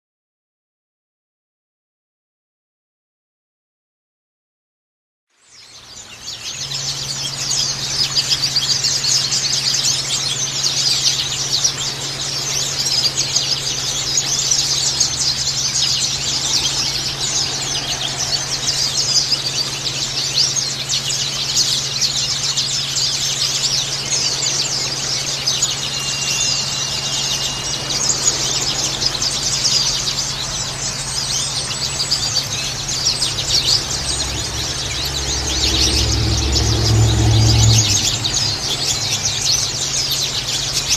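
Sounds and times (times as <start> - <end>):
birds chirping: 5.4 - 40.9
steady low hum: 6.7 - 40.9.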